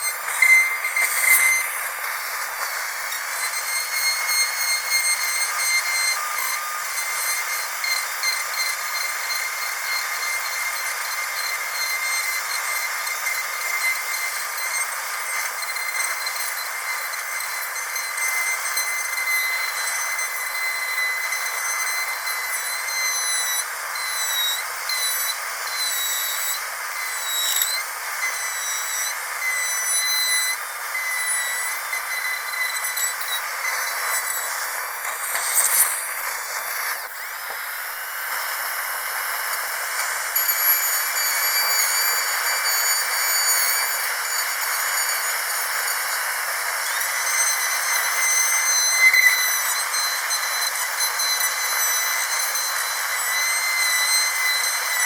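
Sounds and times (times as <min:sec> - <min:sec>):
dental drill whining: 0:00.0 - 0:55.0.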